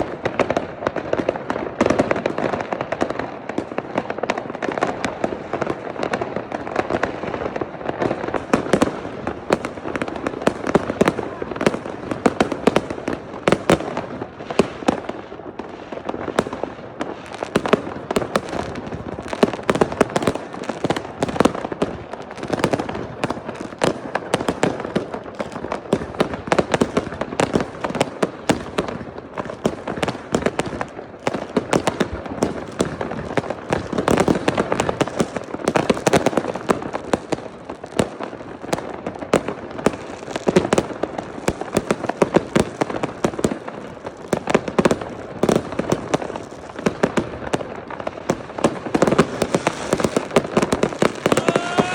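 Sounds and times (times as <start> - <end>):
fireworks and firecrackers banging: 0.0 - 51.9.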